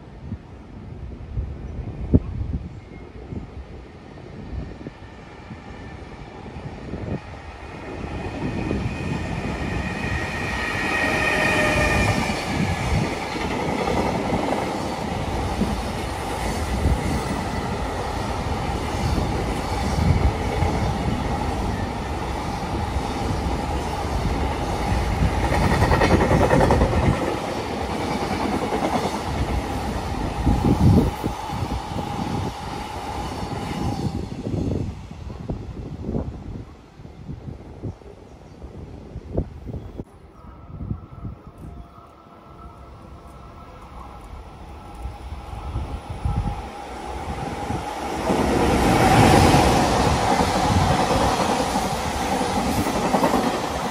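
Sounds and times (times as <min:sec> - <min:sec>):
freight train rumble: 0:00.0 - 0:53.9.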